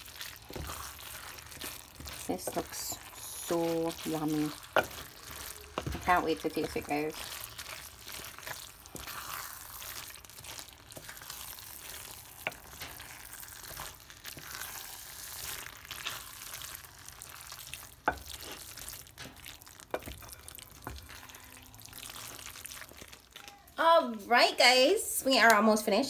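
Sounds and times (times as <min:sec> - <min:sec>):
wet stirring of spaghetti: 0:00.0 - 0:23.8.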